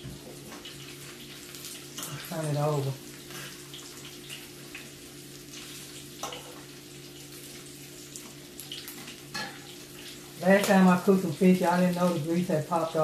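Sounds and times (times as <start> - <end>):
fish frying in grease: 0.0 - 13.0.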